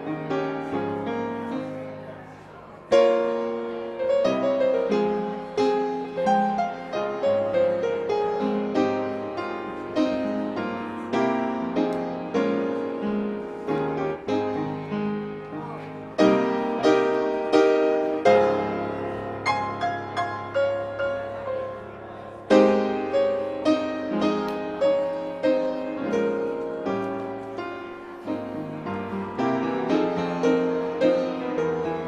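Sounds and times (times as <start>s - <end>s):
upright piano playing hymn: 0.0s - 32.0s.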